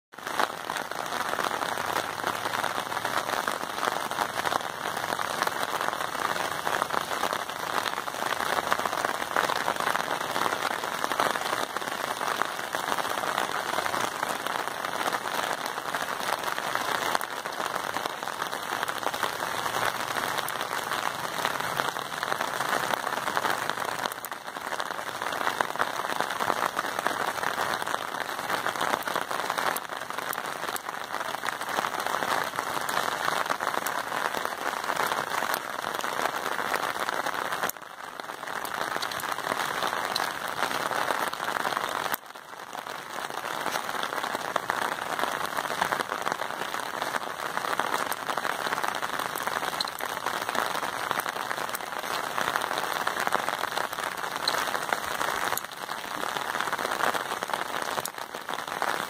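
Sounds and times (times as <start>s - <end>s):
steady rainfall: 0.1s - 59.0s.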